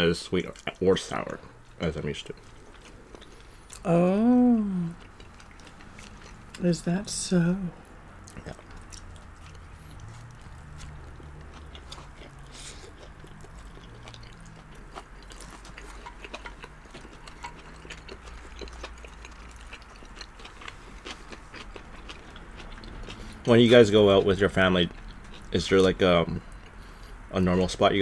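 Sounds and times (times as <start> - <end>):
wet chewing and mouth clicks: 2.1 - 3.9, 4.9 - 6.6, 7.9 - 27.3.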